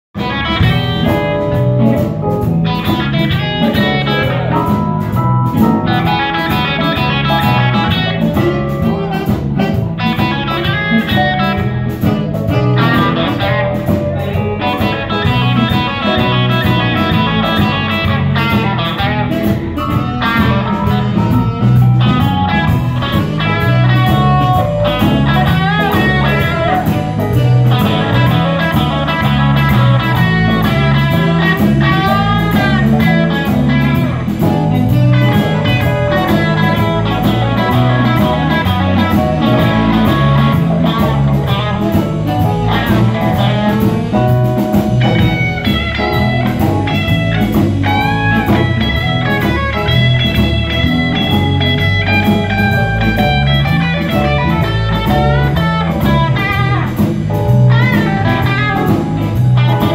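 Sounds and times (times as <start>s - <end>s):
electric guitar: 0.1s - 59.9s
live band playing: 0.1s - 59.9s
drum kit with cymbals: 0.2s - 59.9s.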